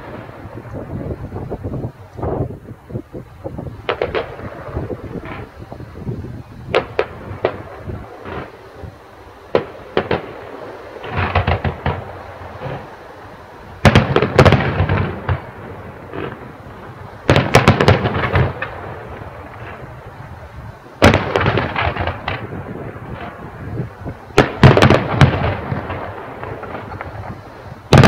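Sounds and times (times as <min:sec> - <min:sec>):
fireworks bangs and crackle: 0:00.0 - 0:28.0.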